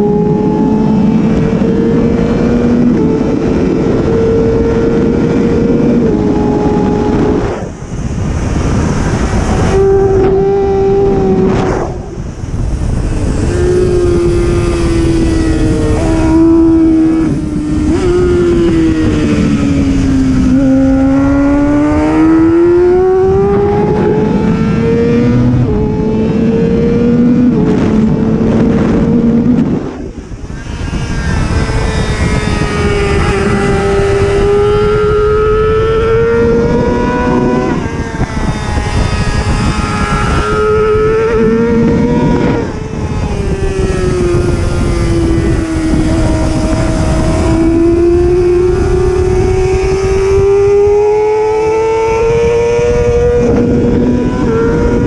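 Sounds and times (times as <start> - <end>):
racing motorcycle engine: 0.0 - 55.0.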